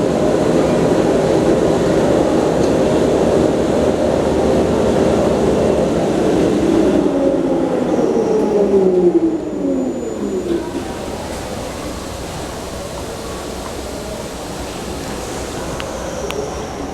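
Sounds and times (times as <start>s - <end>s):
electric train rumble: 0.0s - 16.9s
train motor whine: 0.4s - 16.9s.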